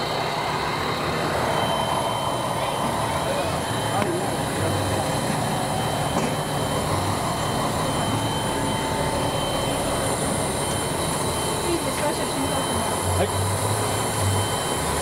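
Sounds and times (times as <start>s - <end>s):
faint high-pitched whines: 0.0s - 15.0s
steam locomotive hiss and rumble: 0.0s - 15.0s.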